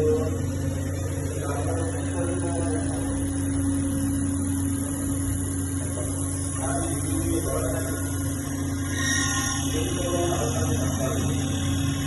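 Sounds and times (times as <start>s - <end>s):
electrical machine hum: 0.0s - 12.0s.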